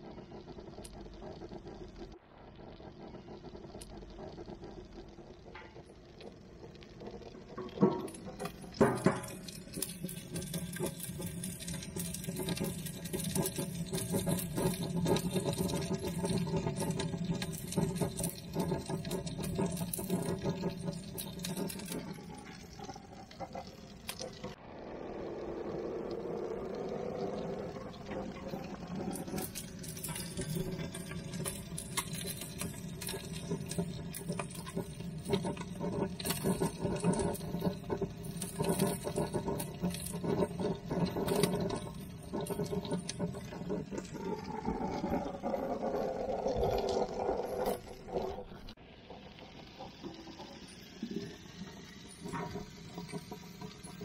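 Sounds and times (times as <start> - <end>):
crackling and ticking in grill: 0.0 - 54.0.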